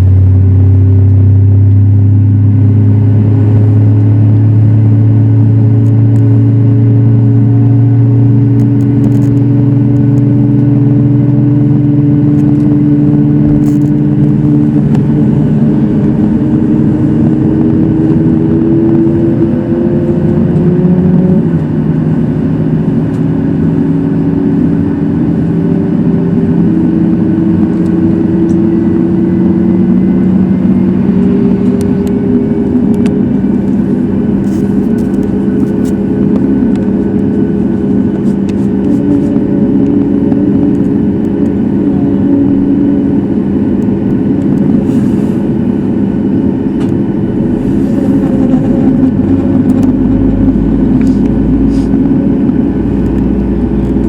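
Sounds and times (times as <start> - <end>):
runway rumble: 0.0 - 54.0
jet engines spooling up: 2.5 - 54.0.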